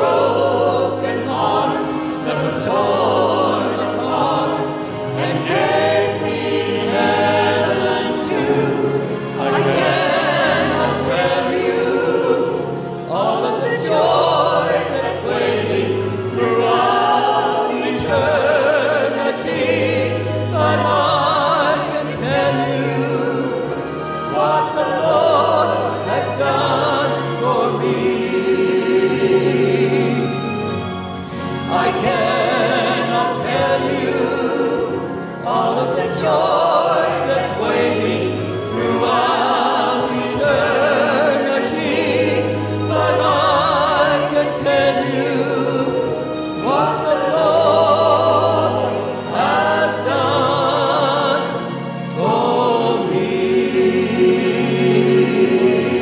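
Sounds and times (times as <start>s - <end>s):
group singing a hymn in harmony: 0.0s - 56.0s.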